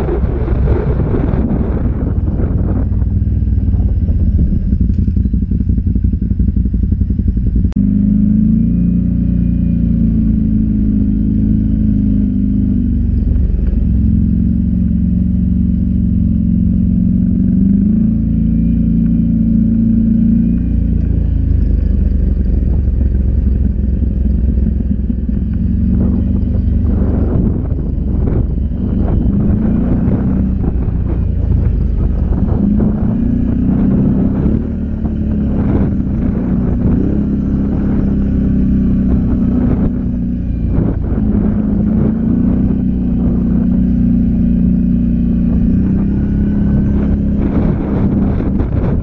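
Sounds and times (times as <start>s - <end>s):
atv engine droning: 0.0s - 49.0s.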